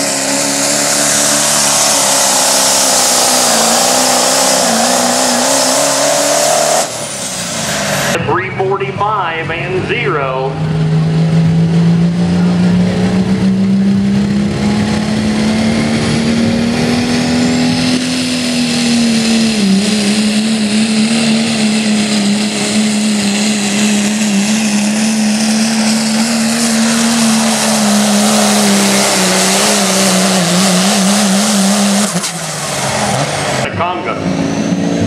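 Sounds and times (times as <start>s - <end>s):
diesel truck engine under load: 0.0s - 35.0s.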